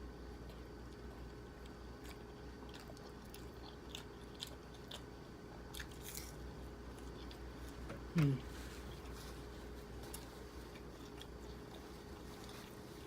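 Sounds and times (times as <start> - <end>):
person chewing food: 0.4 - 13.0.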